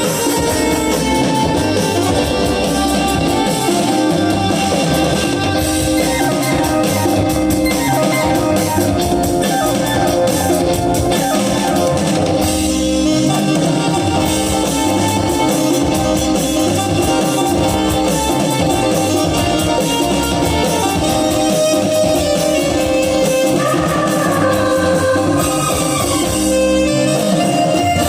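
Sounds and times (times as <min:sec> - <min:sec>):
drum kit beat: 0:00.0 - 0:28.0
electric guitar playing: 0:00.0 - 0:28.0.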